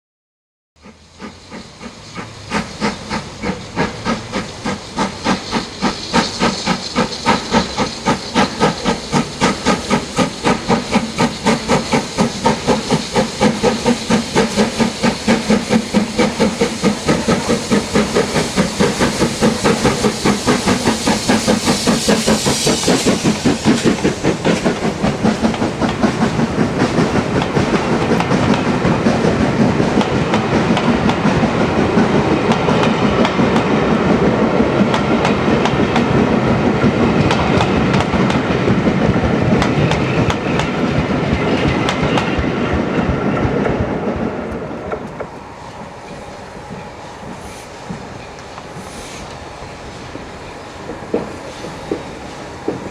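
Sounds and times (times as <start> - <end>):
steam hissing: 0.8 - 52.9
steam locomotive exhaust chuffs: 0.8 - 52.9.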